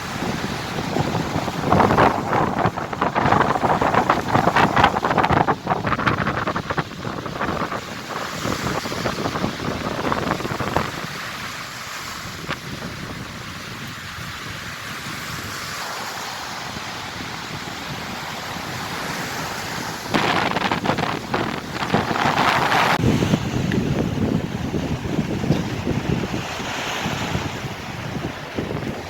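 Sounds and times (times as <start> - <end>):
wind buffeting microphone: 0.0 - 15.9, 16.5 - 29.0
rough sea surf: 0.0 - 29.0.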